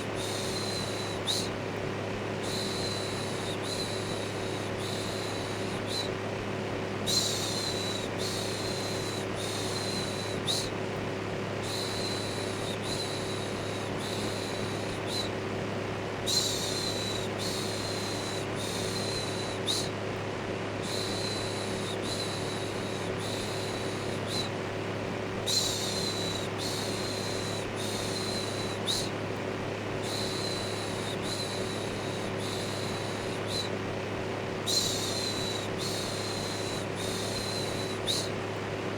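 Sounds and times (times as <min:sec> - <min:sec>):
electric fan humming: 0:00.0 - 0:38.9.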